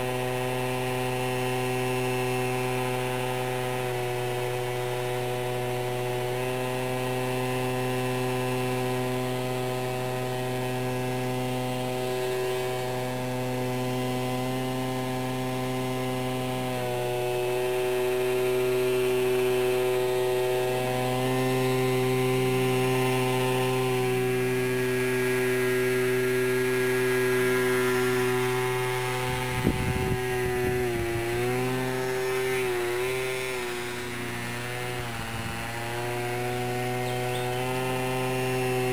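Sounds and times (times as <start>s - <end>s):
electric motor propeller whine: 0.0s - 38.9s.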